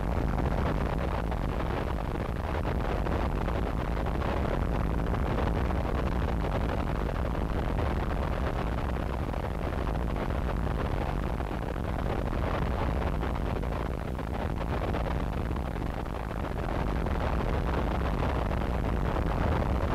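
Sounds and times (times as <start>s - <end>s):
dense static noise: 0.0s - 19.9s.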